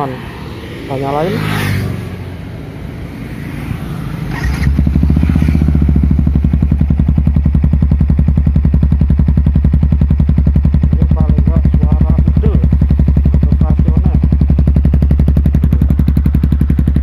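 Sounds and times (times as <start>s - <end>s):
motorcycle engine starting and idling: 0.9s - 17.0s.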